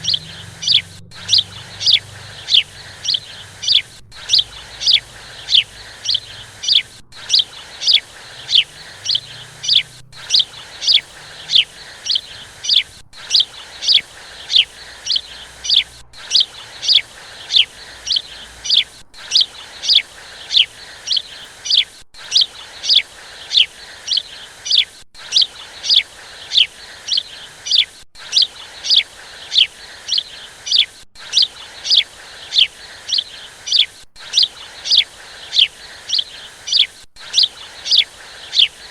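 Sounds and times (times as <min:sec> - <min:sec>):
high bird chirps: 0:00.0 - 0:38.9.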